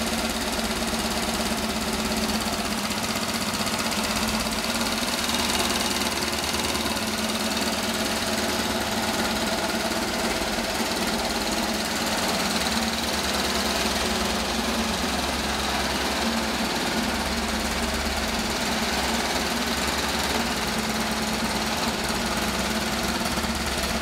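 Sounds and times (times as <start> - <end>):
single-cylinder engine firing steadily: 0.0 - 24.0.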